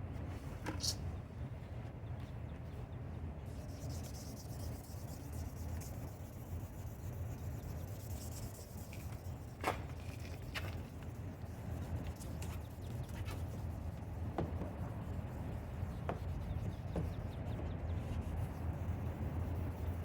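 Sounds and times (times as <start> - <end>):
sandpaper rubbing on plastic: 3.6 - 20.0.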